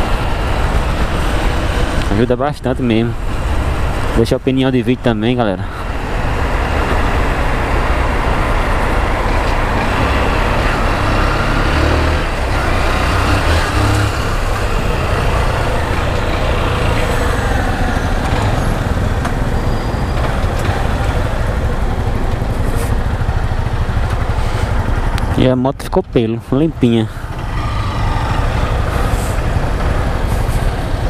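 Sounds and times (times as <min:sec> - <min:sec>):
motorcycle engine running: 0:05.8 - 0:31.0.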